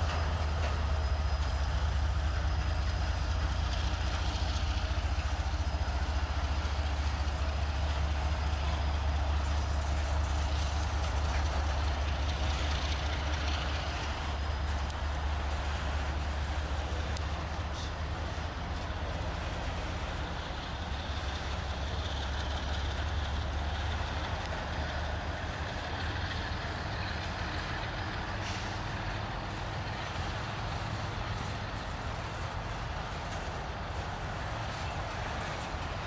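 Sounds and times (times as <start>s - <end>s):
train rolling past rumbling: 0.0s - 36.0s.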